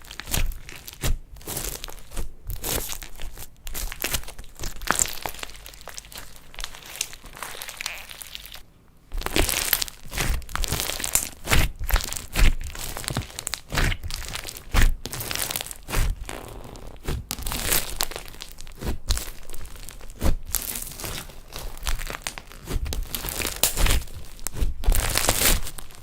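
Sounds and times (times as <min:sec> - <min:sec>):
slime crinkling and popping: 0:00.1 - 0:08.6, 0:09.2 - 0:26.0.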